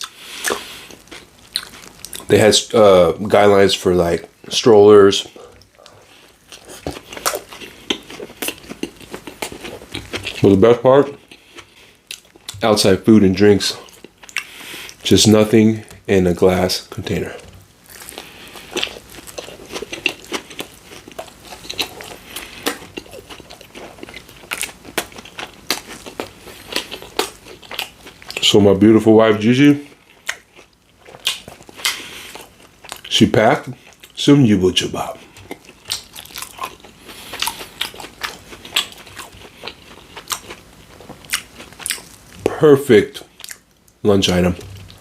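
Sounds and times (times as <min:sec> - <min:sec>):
chewing sandwich: 0:00.0 - 0:02.3, 0:05.2 - 0:12.9, 0:13.6 - 0:15.2, 0:17.0 - 0:28.6, 0:29.7 - 0:42.5, 0:43.1 - 0:44.0.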